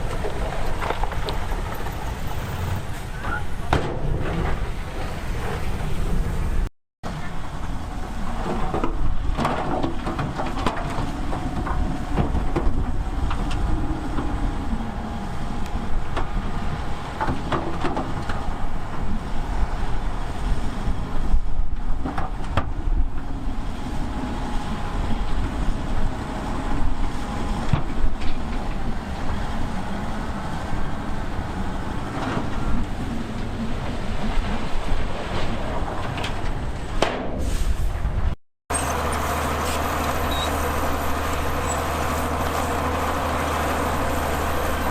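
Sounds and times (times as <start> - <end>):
bulldozer diesel engine: 0.0 - 37.0, 37.9 - 44.9.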